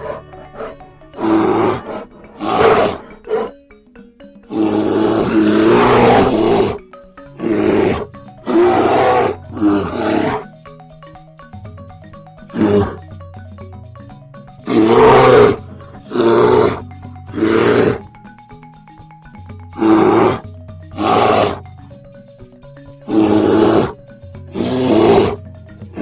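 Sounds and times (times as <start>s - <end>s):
large animal calling: 0.0s - 3.7s, 4.4s - 10.6s, 11.8s - 18.3s, 19.6s - 21.8s, 23.0s - 26.0s
background music with mallet percussion: 0.0s - 26.0s.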